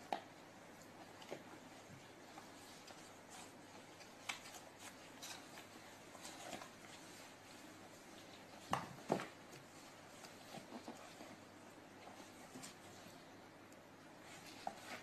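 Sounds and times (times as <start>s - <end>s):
cats scratching cardboard box: 1.0s - 13.3s, 14.2s - 15.0s.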